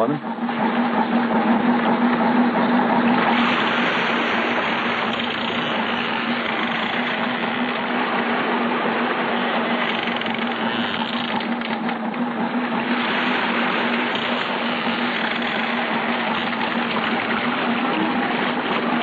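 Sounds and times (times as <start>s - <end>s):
boat engine humming: 0.0s - 19.0s
rushing wind and water: 0.0s - 19.0s.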